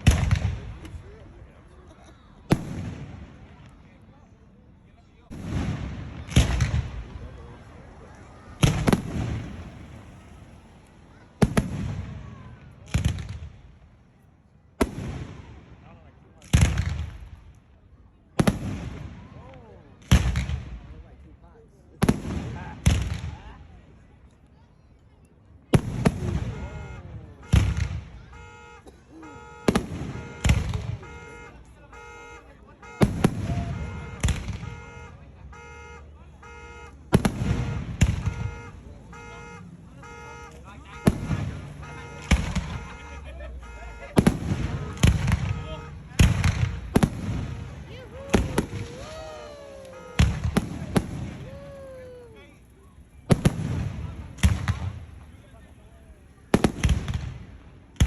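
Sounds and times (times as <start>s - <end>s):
crackling firework bangs: 0.0s - 1.6s, 2.4s - 3.8s, 5.2s - 14.1s, 14.8s - 17.7s, 18.3s - 21.2s, 22.0s - 23.7s, 25.7s - 52.3s, 53.2s - 58.0s
fireworks bursting: 0.0s - 3.9s, 5.2s - 17.7s, 18.3s - 21.2s, 22.0s - 23.8s, 25.6s - 58.0s.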